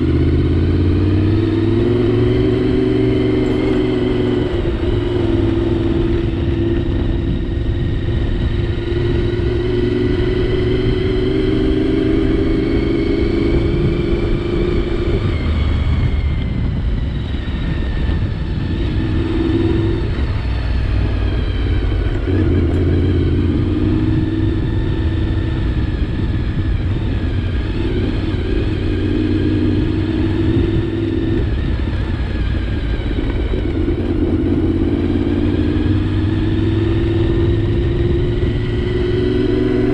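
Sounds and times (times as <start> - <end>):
motorcycle engine cruising: 0.0 - 39.9
wind rushing past microphone: 0.0 - 39.9.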